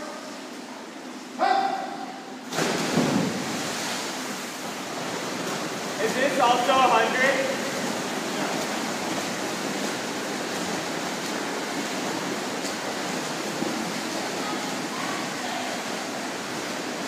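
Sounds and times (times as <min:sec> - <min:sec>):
swimmers splashing: 0:00.2 - 0:17.0.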